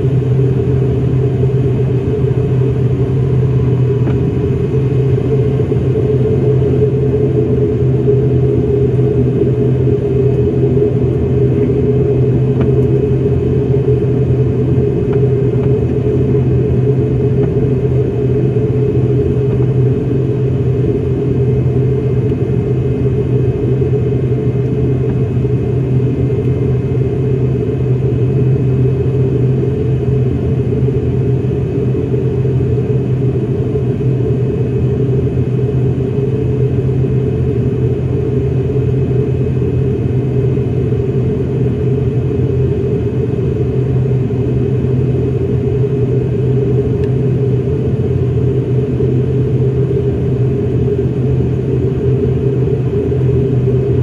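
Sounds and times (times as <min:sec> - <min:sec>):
propeller engine drone: 0:00.0 - 0:54.0.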